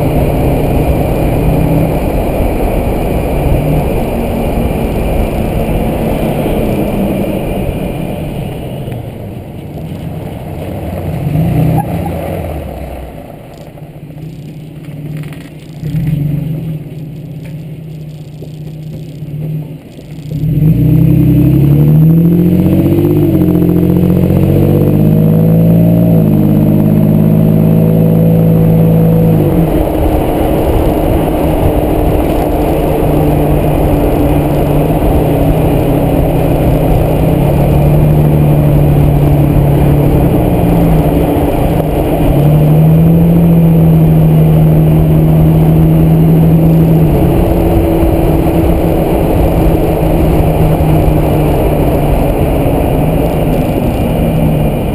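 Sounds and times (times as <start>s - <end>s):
rough road noise: 0.0s - 54.9s
truck engine accelerating: 0.0s - 54.9s.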